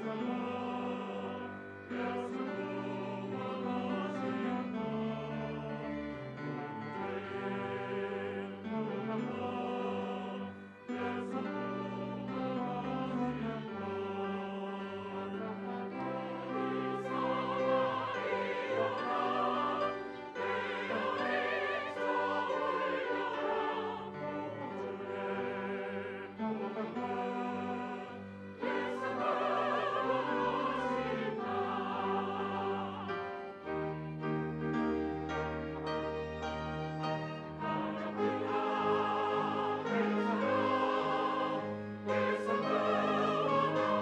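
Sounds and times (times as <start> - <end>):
choir singing a hymn: 0.0 - 44.0
piano: 0.0 - 44.0
string ensemble: 0.0 - 44.0.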